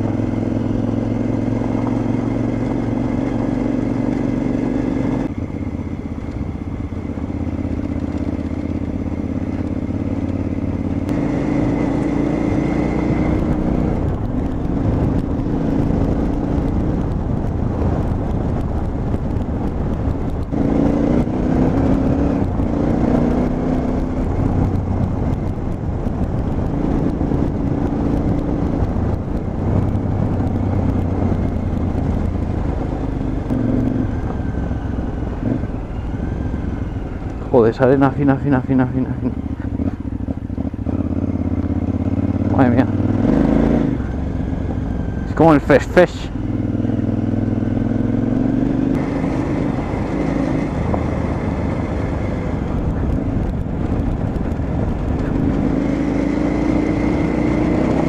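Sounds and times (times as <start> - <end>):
motorcycle engine changing gears: 0.0 - 58.0
tyres rumbling on dirt track: 0.0 - 58.0.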